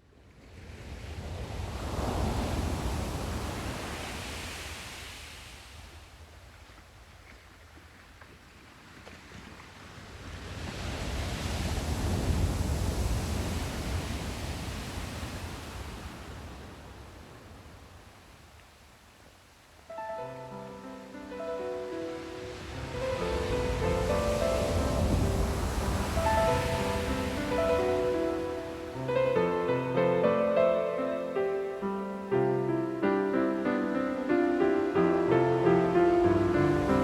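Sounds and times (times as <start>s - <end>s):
ocean waves washing ashore: 0.0s - 37.0s.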